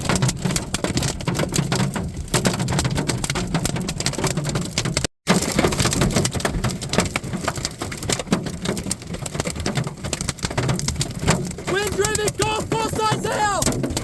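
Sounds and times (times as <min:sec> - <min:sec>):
hailstones hammering a car: 0:00.0 - 0:14.0.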